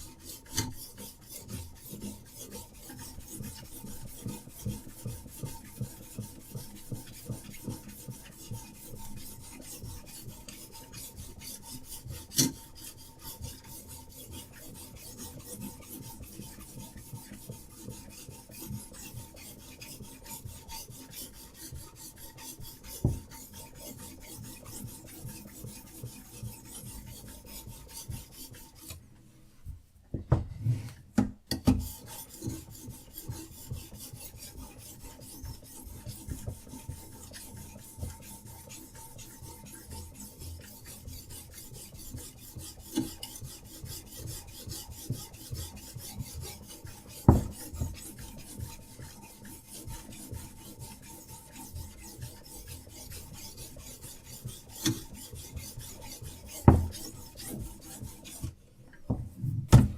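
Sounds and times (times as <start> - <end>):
sharpening stone rasping on knife: 0.1 - 6.6, 7.2 - 29.0, 31.8 - 58.5.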